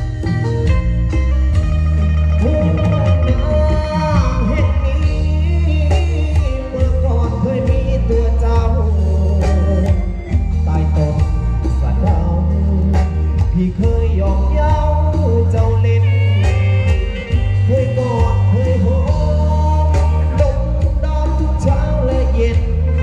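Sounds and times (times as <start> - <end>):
heavy steady bass: 0.0 - 23.0
live band music with singing: 0.0 - 23.0.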